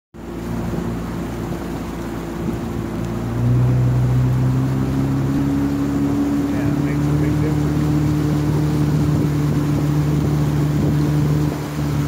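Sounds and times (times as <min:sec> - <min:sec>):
outboard motor running: 0:00.2 - 0:12.0.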